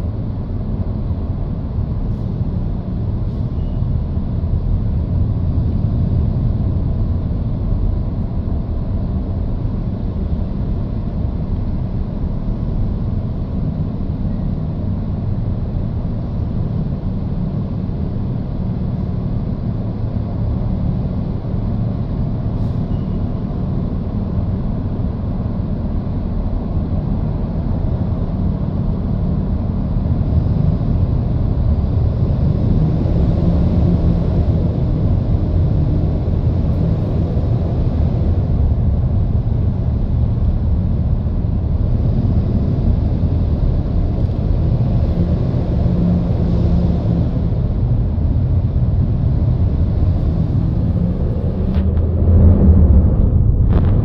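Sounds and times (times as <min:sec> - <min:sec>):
road and traffic rumble in tunnel: 0:00.0 - 0:54.0.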